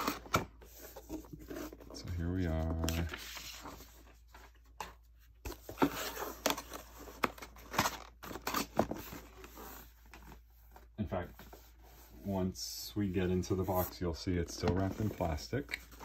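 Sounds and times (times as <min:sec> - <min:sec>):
paper and cardboard rustling: 0:00.0 - 0:12.4, 0:13.2 - 0:16.0.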